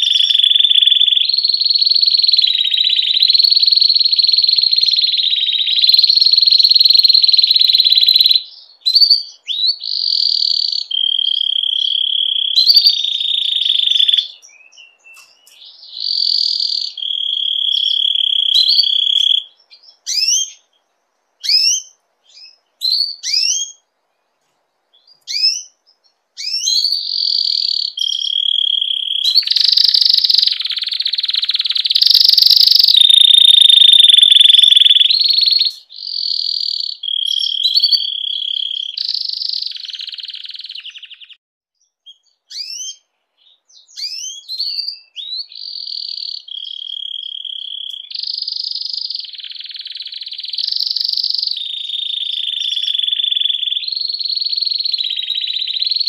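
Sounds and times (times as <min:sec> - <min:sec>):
canary singing: 0:00.0 - 0:23.9, 0:24.9 - 0:56.0.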